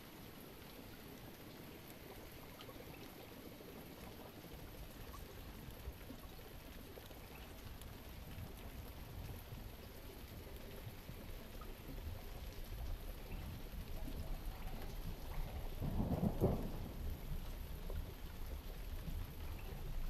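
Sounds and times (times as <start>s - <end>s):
faint drips: 0.0s - 16.4s
steady rain hiss: 0.0s - 20.0s.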